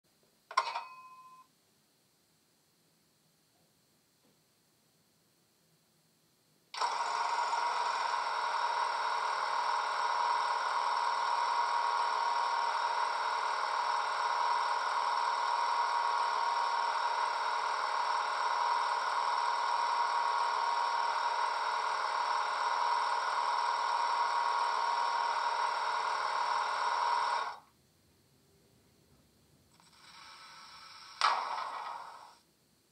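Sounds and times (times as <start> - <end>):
electrical whine and hum: 0.1 - 32.9.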